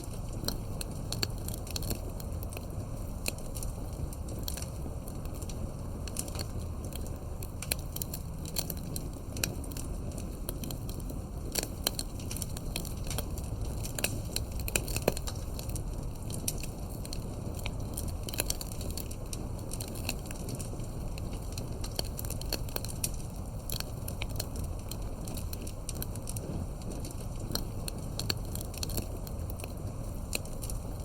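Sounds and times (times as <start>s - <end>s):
burning wood crackling and popping: 0.0s - 31.0s
low rumble of fire: 0.0s - 31.0s.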